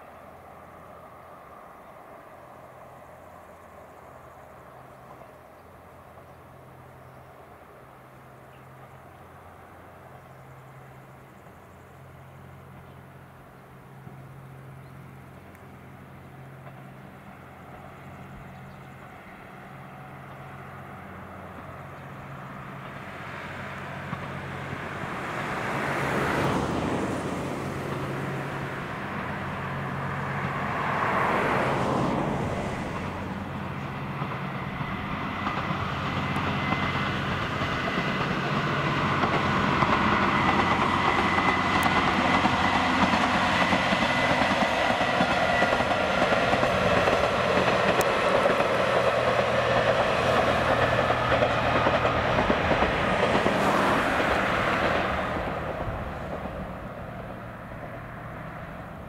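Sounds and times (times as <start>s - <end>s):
wheel-on-rail noise: 0.0s - 59.0s
diesel engine drone: 8.0s - 59.0s.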